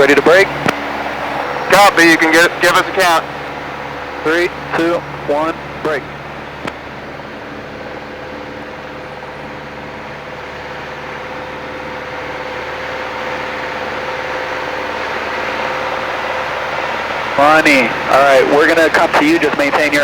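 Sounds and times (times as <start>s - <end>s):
plane engine and propeller drone: 0.0s - 20.0s.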